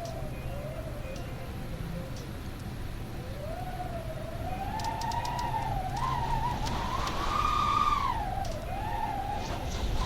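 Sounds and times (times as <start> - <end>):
wind howling: 0.0 - 10.0.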